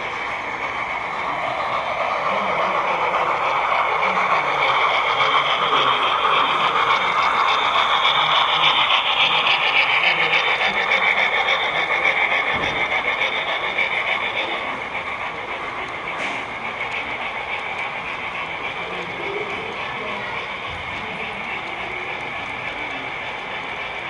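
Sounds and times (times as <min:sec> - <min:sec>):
model train wheels clattering on track: 0:00.0 - 0:24.0.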